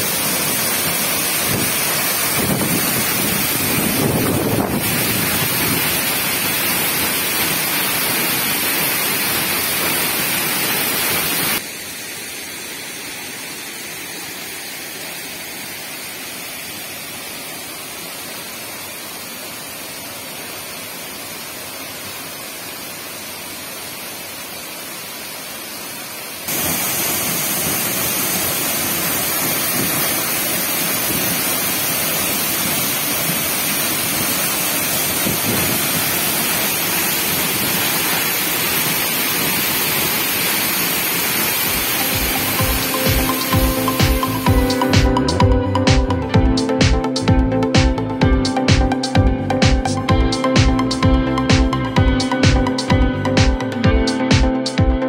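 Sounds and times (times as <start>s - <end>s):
waterfall rushing onto rocks: 0.0s - 53.6s.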